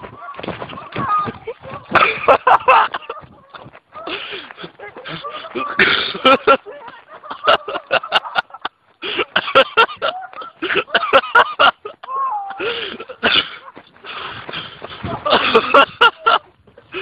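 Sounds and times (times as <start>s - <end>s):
people's voices: 0.0s - 17.0s.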